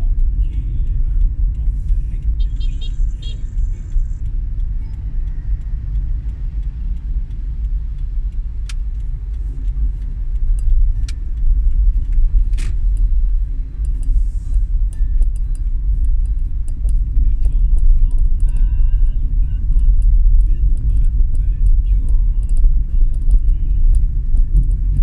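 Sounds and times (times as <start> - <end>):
sharp clicks and ticks: 0.0 - 25.0
vehicle rumbling on road: 0.0 - 25.0.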